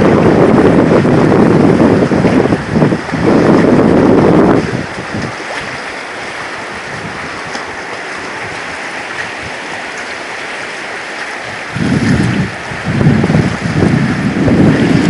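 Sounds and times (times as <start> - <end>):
sea water washing around jetty: 0.0 - 15.0
wind buffeting microphone: 0.0 - 15.0.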